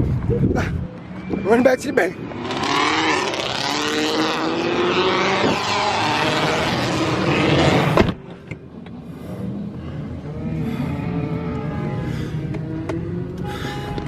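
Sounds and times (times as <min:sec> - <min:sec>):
steady engine drone: 0:00.0 - 0:14.0
car engine accelerating: 0:01.0 - 0:14.0.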